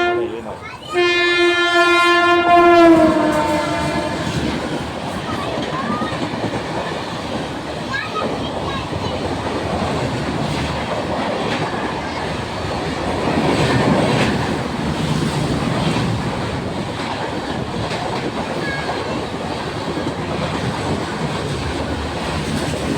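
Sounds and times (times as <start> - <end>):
train wheels rumbling on rails: 0.0 - 22.9
wheels clacking over rail joints: 2.9 - 22.9.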